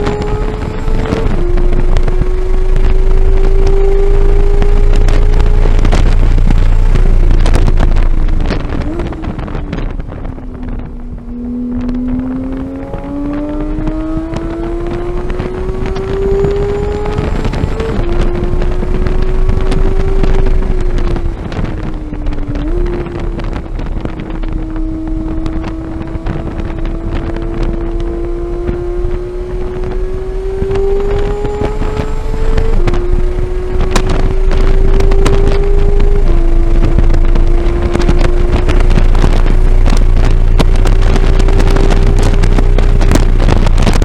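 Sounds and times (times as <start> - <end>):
car engine accelerating hard: 0.0 - 44.0
wind noise on microphone: 0.0 - 44.0.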